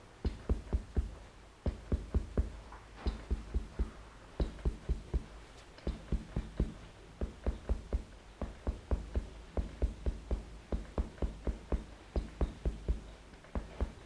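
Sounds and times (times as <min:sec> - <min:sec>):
percussive blows on body: 0:00.0 - 0:14.0.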